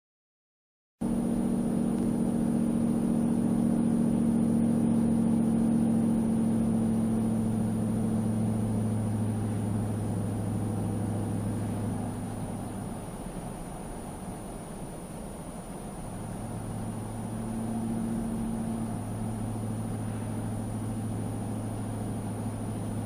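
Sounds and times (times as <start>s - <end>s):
low exhaust drone: 1.0s - 23.0s
road noise: 1.0s - 23.0s.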